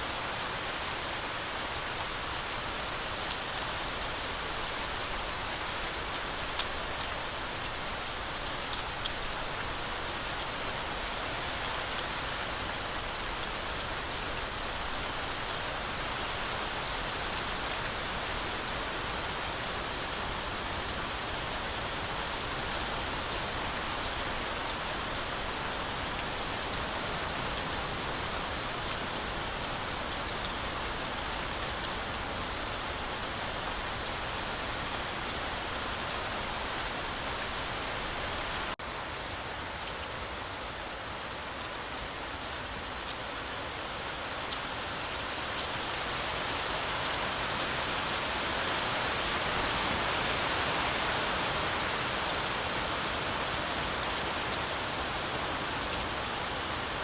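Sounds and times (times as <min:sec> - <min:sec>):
heavy rain on forest canopy: 0:00.0 - 0:57.0.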